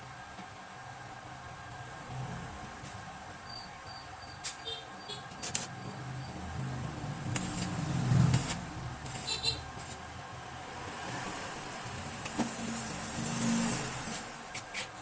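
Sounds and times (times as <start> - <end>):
vehicle engine rumble: 1.2 - 15.0.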